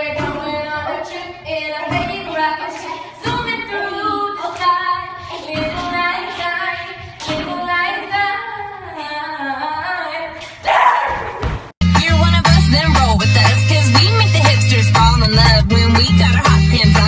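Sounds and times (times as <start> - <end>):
woman singing: 0.0 - 10.6, 11.9 - 17.0.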